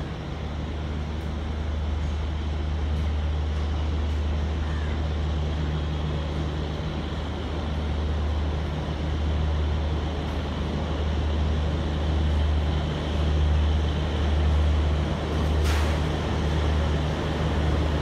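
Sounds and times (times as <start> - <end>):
locomotive engine droning: 0.0 - 18.0.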